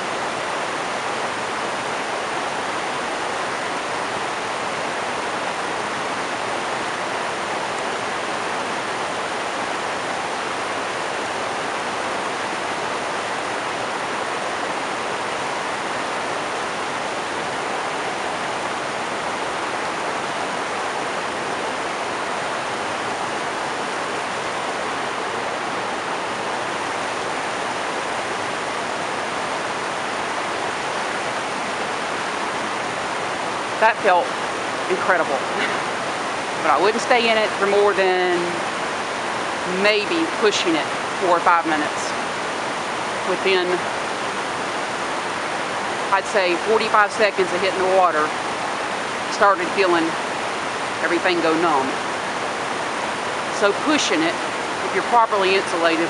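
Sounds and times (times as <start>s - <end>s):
river rapids rushing over rocks: 0.0s - 56.0s.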